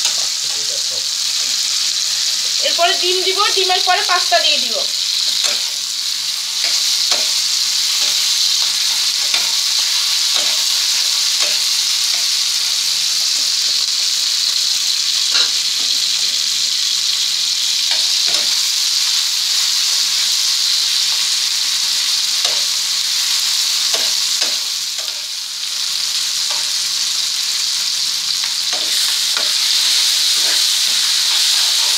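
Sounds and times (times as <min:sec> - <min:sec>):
vegetables sizzling in oil: 0:00.0 - 0:31.9.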